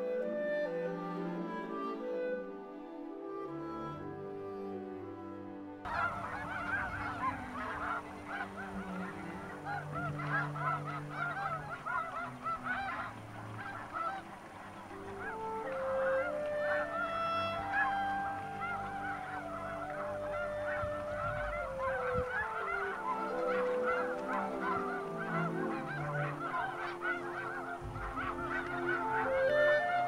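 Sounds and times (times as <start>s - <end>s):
soft music: 0.0s - 30.0s
geese honking: 5.9s - 30.0s.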